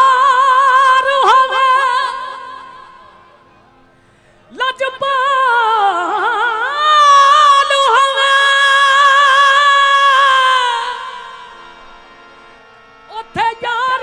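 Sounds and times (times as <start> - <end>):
faint harmonium: 0.0 - 14.0.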